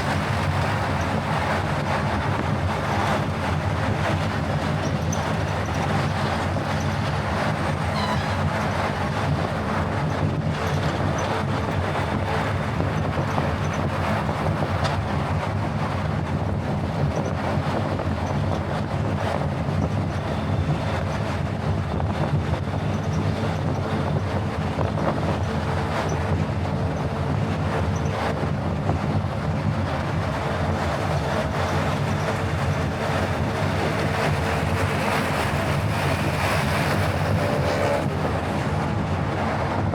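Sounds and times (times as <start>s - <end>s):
car tyres and engine driving: 0.0s - 39.9s.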